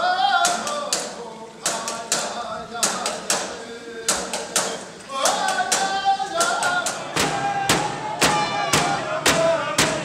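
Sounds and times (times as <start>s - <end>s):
voices singing held notes: 0.0s - 10.0s
frame drums beating: 0.5s - 10.0s.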